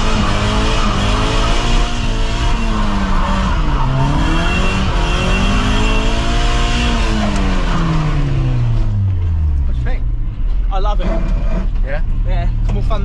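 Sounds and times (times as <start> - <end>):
car engine revving: 0.0 - 13.0
tyre and road noise: 0.0 - 13.0.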